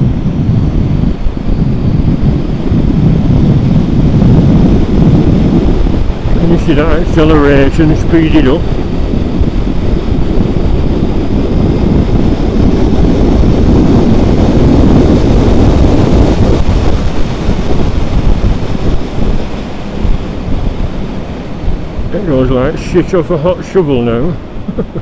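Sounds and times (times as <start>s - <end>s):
motorcycle engine and road noise: 0.0s - 25.0s
wind rushing over microphone: 0.0s - 25.0s.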